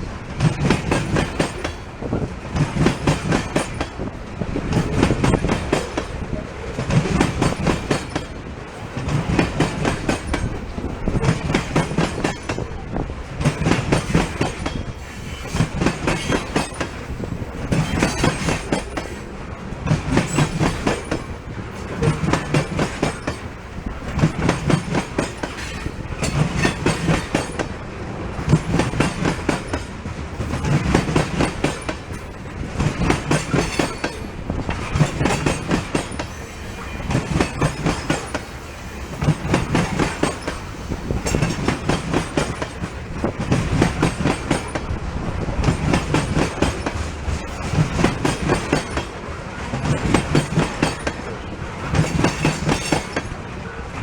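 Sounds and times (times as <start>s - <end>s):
train wheels clicking over rail joints: 0.2s - 53.8s.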